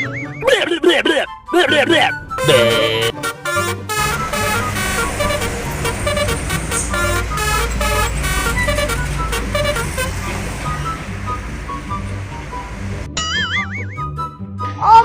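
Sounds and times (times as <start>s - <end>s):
engine rumbling: 0.0s - 14.6s
multi-tone bus horn tune: 1.3s - 13.4s.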